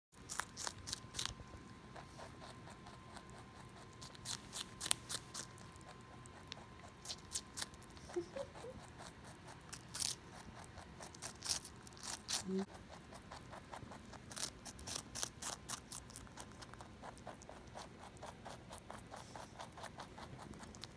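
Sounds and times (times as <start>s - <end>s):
rabbit chewing crunchy rind: 0.1s - 20.9s.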